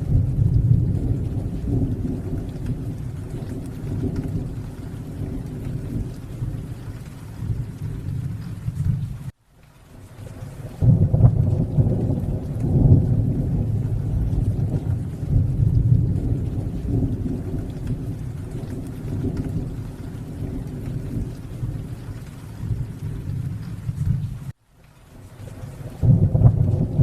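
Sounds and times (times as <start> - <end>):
thunder rumbling: 0.0 - 9.3, 9.9 - 27.0
steady rain: 0.0 - 27.0.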